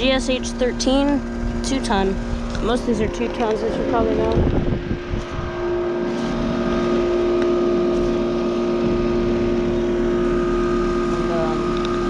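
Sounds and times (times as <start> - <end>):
compressor hum: 0.0 - 12.0
condenser fan rushing: 0.0 - 12.0.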